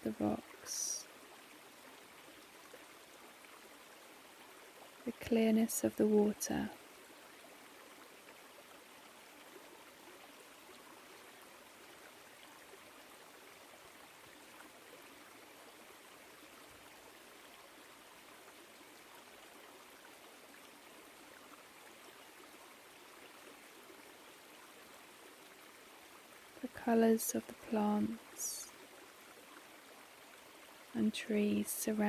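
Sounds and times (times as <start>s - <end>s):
stream trickling over rocks: 0.0s - 32.0s.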